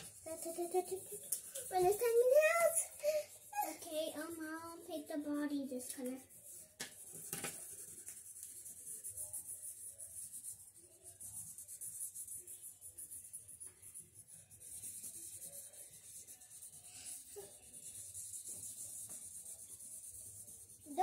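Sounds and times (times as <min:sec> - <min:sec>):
markers scratching on paper: 0:00.0 - 0:21.0.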